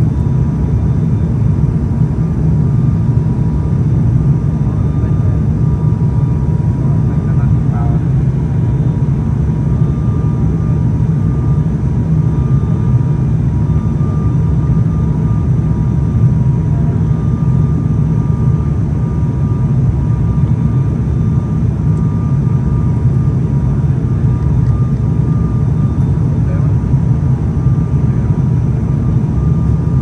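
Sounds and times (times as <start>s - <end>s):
faint steady whine: 0.0s - 30.0s
turboprop engines droning: 0.0s - 30.0s.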